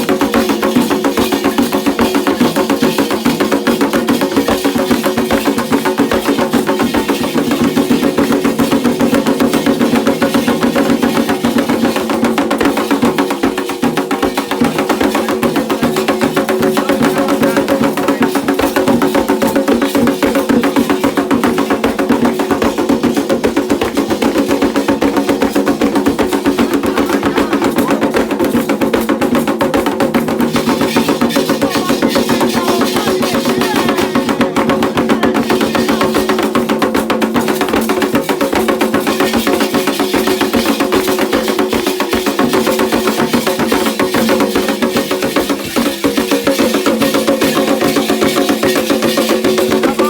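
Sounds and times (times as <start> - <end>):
hand drums and percussion: 0.0 - 50.0.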